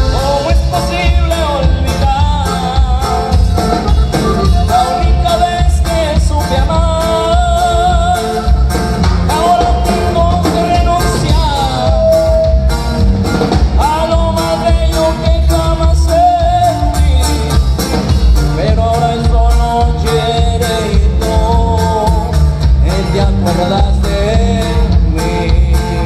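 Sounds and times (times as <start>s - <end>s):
accordion melody: 0.0s - 26.0s
drum kit beat: 0.0s - 26.0s
electric bass: 0.0s - 26.0s
guitar: 0.0s - 26.0s.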